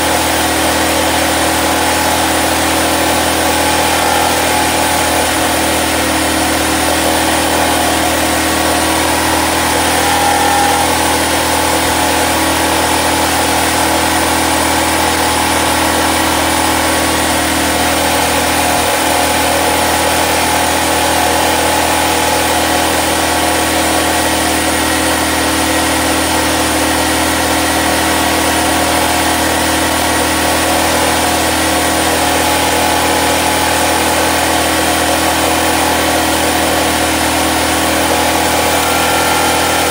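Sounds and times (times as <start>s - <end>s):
small generator engine running: 0.0s - 39.9s.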